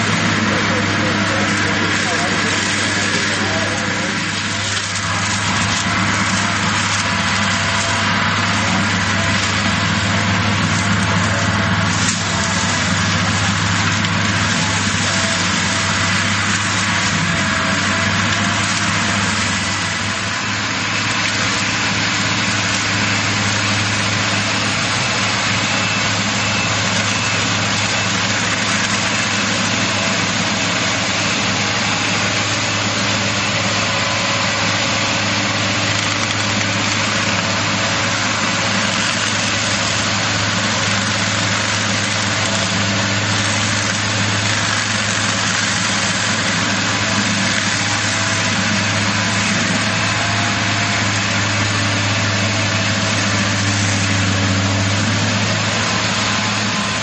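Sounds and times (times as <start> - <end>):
forestry mulcher droning: 0.0 - 57.0.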